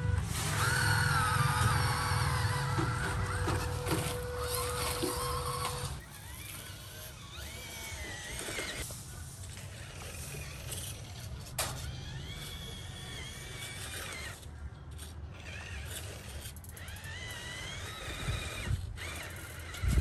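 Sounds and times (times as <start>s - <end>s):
electric motor and gears whining: 0.0s - 20.0s
low drivetrain rumble: 0.0s - 20.0s.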